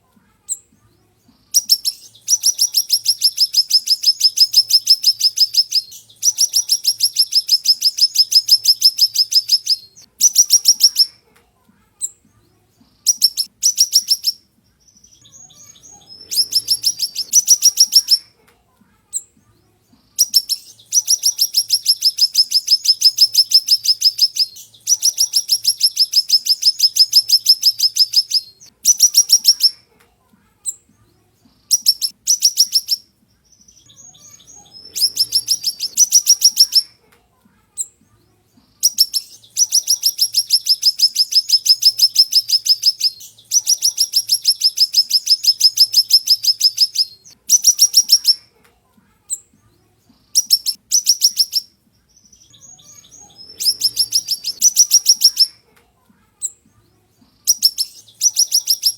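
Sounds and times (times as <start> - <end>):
soft twittering chirps: 0.4 - 11.2, 12.0 - 18.3, 19.1 - 29.8, 30.6 - 37.0, 37.7 - 48.5, 49.2 - 55.7, 56.4 - 58.9
songbird high-pitched trills: 0.5 - 11.2, 12.0 - 18.3, 19.1 - 29.8, 31.6 - 37.0, 38.7 - 48.5, 50.2 - 55.6, 57.4 - 58.9.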